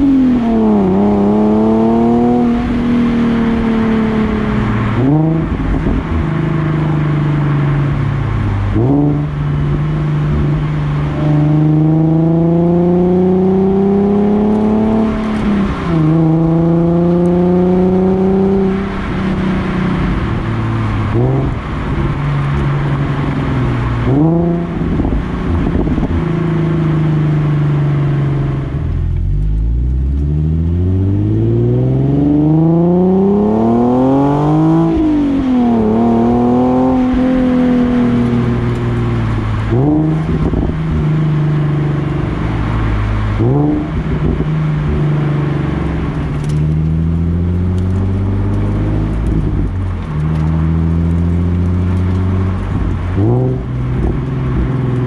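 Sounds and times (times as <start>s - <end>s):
car exhaust revving: 0.0s - 55.0s.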